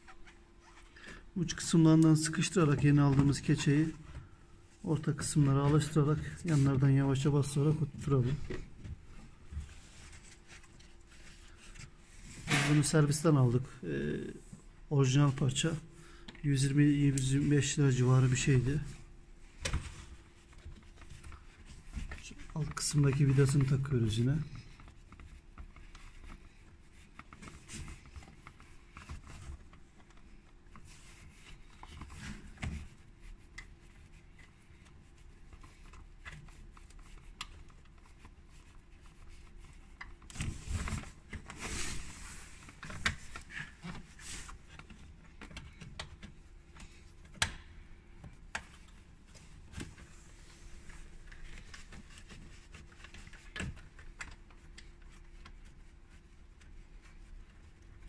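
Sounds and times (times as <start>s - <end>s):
faint steady hum: 0.0s - 58.0s
rustling and scraping: 0.0s - 58.0s.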